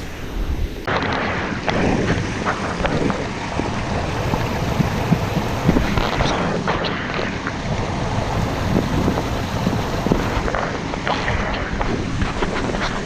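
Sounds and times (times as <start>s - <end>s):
water splashing and gurgling: 0.8s - 13.0s
mountain stream rushing over rocks: 0.9s - 13.0s.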